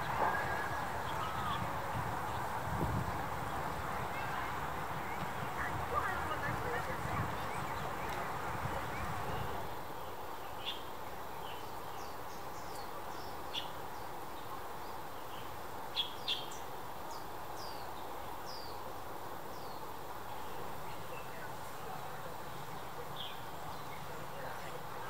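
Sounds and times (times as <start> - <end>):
small birds chirping: 0.0 - 18.9, 19.5 - 25.0
background noise: 0.0 - 25.0.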